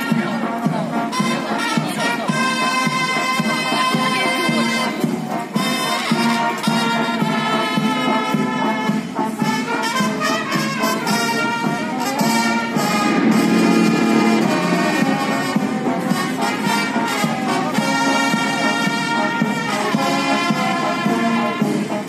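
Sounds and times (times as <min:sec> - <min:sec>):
brass music: 0:00.0 - 0:22.0.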